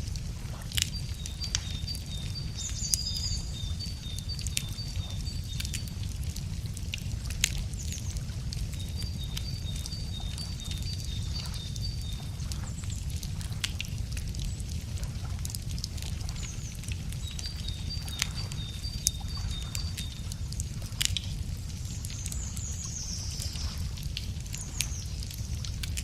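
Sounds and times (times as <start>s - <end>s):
wood fire crackling and popping: 0.0s - 26.0s
small birds singing: 0.7s - 6.7s, 7.4s - 15.0s, 15.7s - 26.0s.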